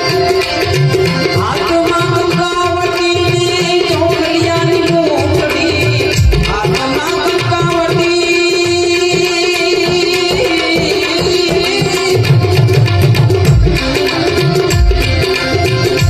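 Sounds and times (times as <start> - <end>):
hand drum rhythm: 0.0 - 16.0
harmonium melody: 0.0 - 16.0.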